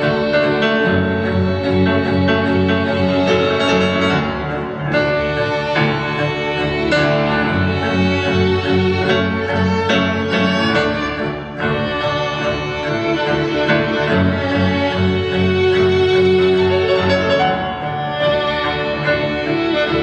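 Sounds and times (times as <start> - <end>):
string ensemble playing: 0.0 - 20.0.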